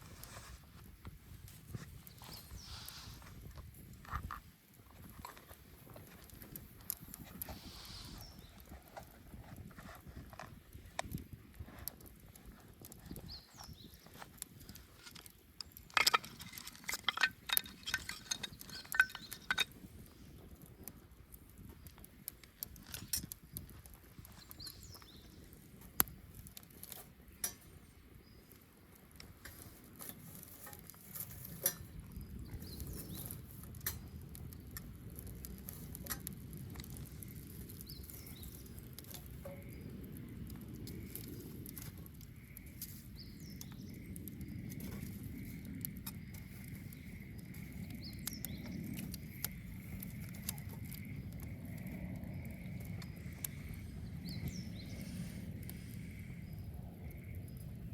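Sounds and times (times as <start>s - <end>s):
bonfire crackling and popping: 0.0s - 57.9s.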